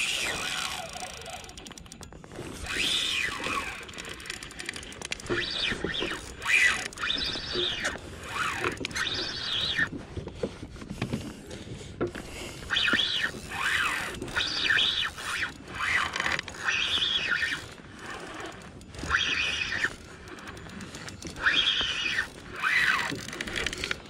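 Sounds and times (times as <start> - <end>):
fishing reel drag whining: 0.0 - 10.0, 12.1 - 24.0.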